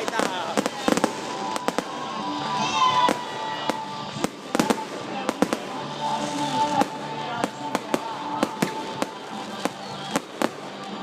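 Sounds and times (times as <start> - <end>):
fireworks bangs: 0.0 - 10.9
music playing: 0.0 - 11.0.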